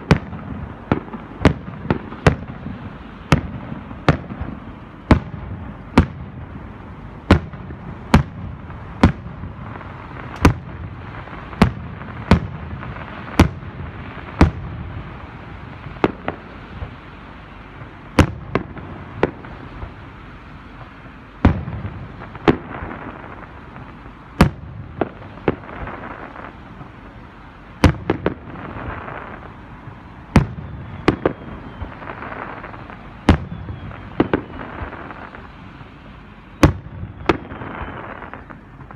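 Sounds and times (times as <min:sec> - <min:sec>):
fireworks bursting: 0:00.0 - 0:38.9
fireworks crackling hiss: 0:00.0 - 0:38.9.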